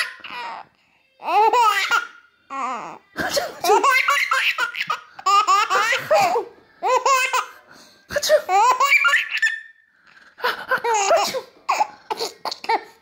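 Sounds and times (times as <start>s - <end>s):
baby laughing: 0.0s - 0.6s, 1.2s - 7.6s, 8.2s - 9.7s, 10.4s - 13.0s.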